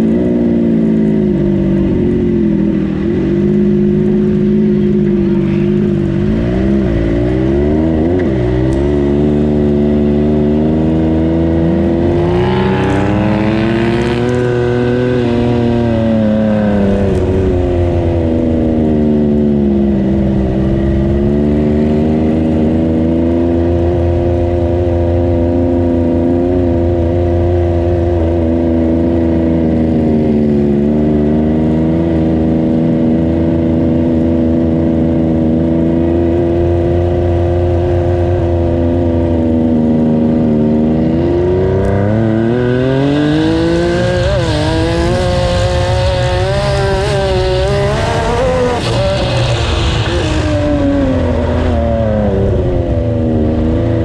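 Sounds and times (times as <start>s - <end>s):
engine revving at low speed: 0.0s - 54.0s.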